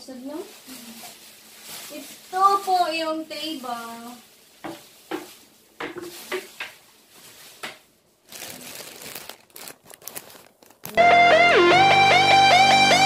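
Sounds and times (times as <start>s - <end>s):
packaging crinkling and rustling: 0.1s - 11.1s.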